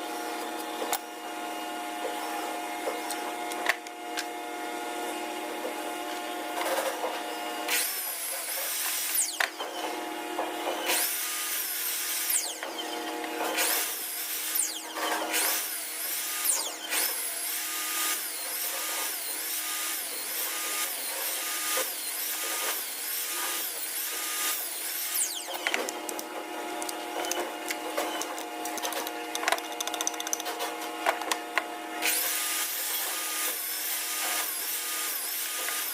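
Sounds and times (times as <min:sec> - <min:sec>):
woodworking power tools running: 0:00.0 - 0:35.9.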